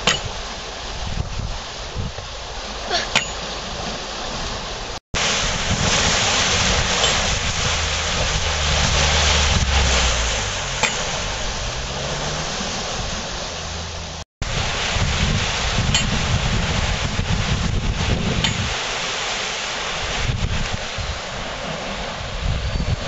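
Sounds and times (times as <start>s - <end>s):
water rushing into lock: 0.0s - 23.0s
wind buffeting microphone: 0.0s - 23.0s.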